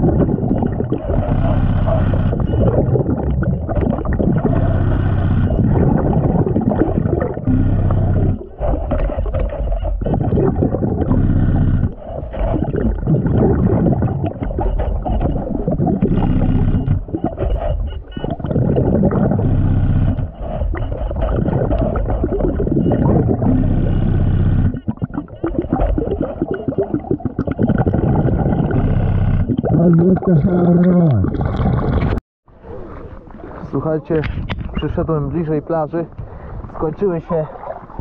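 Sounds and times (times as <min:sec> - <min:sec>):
exhaled bubbles underwater: 0:00.0 - 0:35.4, 0:36.0 - 0:38.0.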